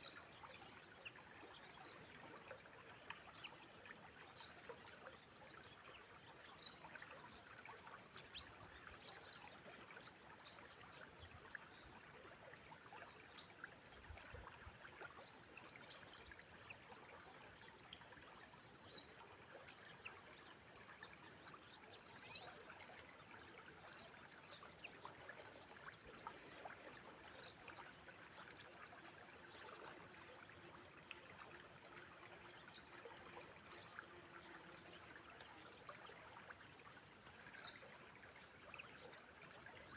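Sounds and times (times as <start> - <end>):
small splashes and trickles: 0.0 - 39.9.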